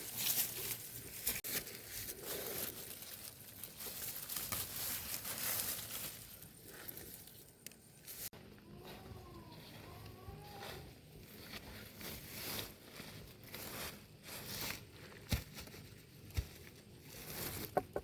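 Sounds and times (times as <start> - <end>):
rustling and crinkling: 0.0 - 18.0.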